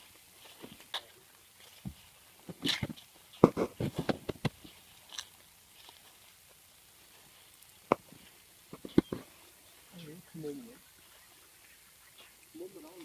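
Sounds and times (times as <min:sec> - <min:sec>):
footsteps in dry grass: 0:00.0 - 0:13.0.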